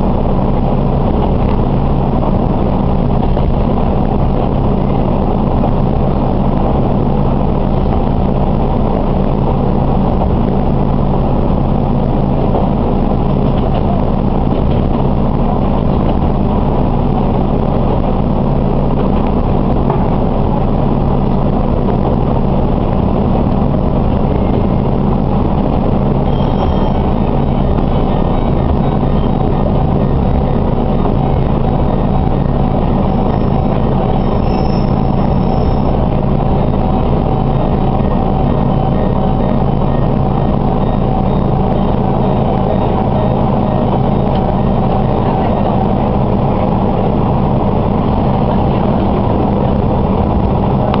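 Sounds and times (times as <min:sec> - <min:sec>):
diesel engine running: 0:00.0 - 0:51.0
railcar rumble: 0:00.0 - 0:51.0.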